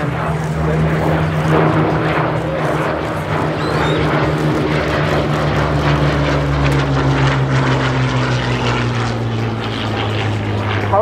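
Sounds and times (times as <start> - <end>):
propeller plane engine flying past: 0.0 - 11.0.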